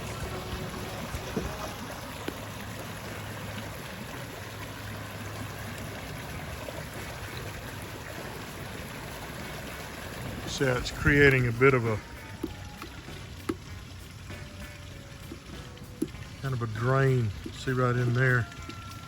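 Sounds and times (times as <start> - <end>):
creek water running through culvert: 0.0 - 19.0.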